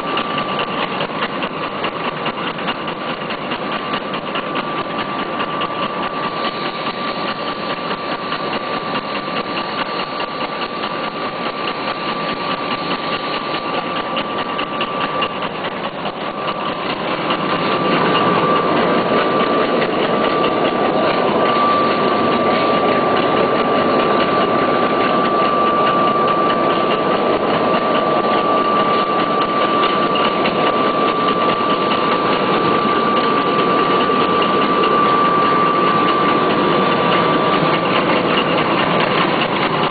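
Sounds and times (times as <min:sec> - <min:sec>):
machine clatter with whine: 0:00.0 - 0:39.9.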